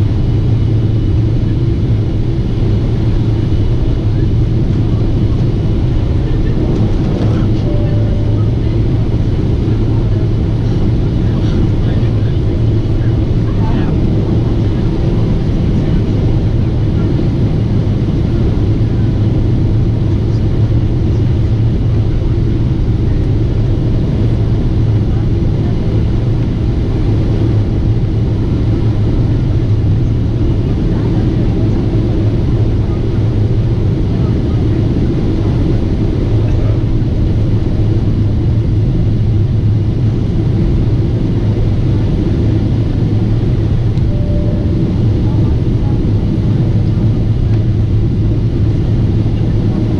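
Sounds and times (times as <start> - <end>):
airliner engine rumble: 0.0 - 49.9.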